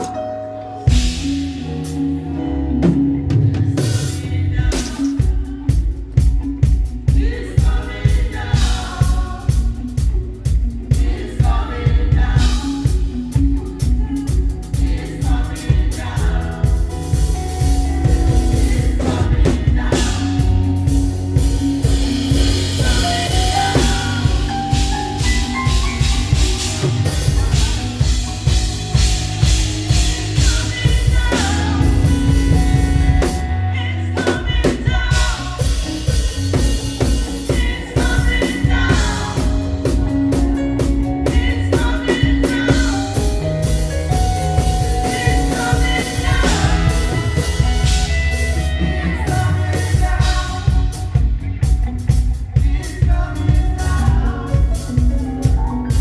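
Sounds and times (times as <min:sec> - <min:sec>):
drum kit beat: 0:00.0 - 0:00.3, 0:00.9 - 0:33.6, 0:34.2 - 0:56.0
people singing: 0:00.0 - 0:56.0
praise band playing: 0:00.0 - 0:56.0.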